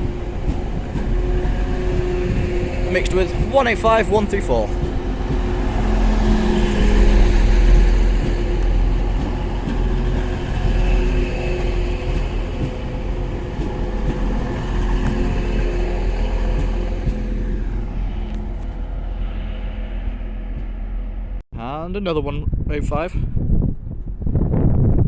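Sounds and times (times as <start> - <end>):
train diesel engines rumbling: 0.0 - 21.4.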